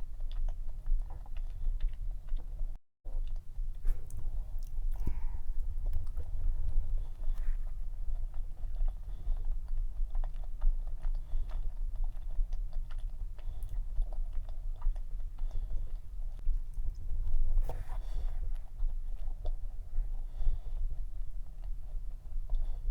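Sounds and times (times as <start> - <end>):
close-miked chewing: 0.0 - 22.9.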